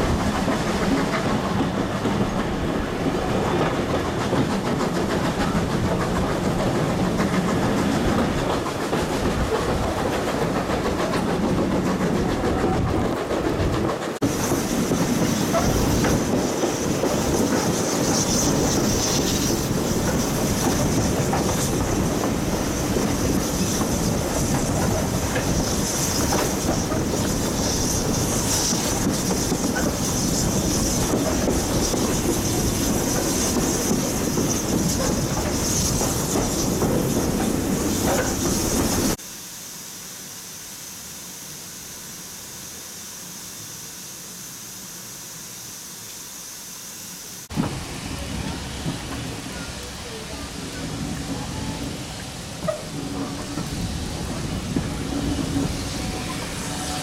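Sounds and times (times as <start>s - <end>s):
train wheels clicking on rails: 0.0s - 39.2s, 47.5s - 57.0s.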